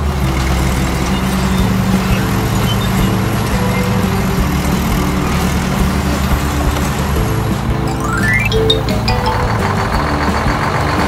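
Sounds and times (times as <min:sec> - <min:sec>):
excavator engine rumble: 0:00.0 - 0:11.0.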